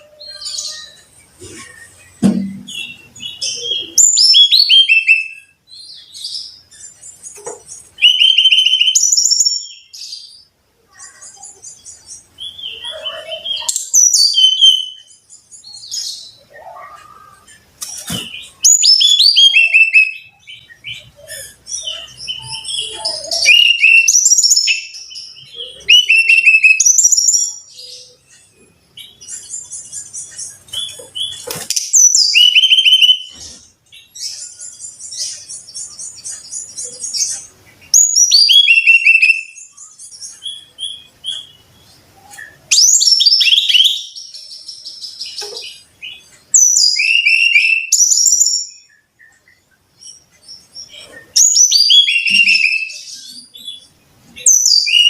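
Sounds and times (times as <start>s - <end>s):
bird whistled song: 0.0s - 6.6s, 8.0s - 10.3s, 11.0s - 17.4s, 18.0s - 28.4s, 29.0s - 45.4s, 46.1s - 49.6s, 50.8s - 55.0s
high trilled bird chatter: 0.0s - 55.0s.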